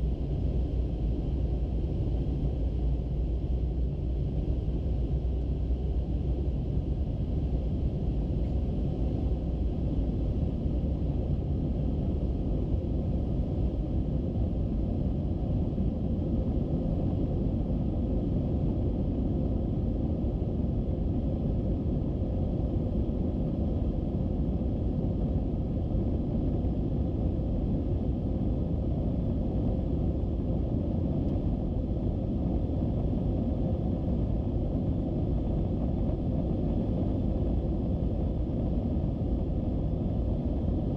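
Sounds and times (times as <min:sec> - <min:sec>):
faint steady hum: 0:00.0 - 0:40.9
jet cabin engine rumble: 0:00.0 - 0:40.9.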